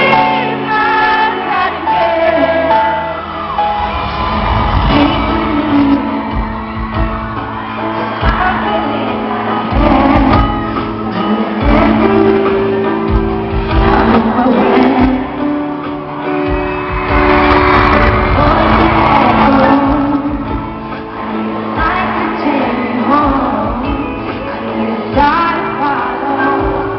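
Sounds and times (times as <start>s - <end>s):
woman singing pop ballad: 0.0s - 3.4s, 4.6s - 16.4s, 17.1s - 26.9s
crowd shouting and singing along: 0.0s - 26.9s.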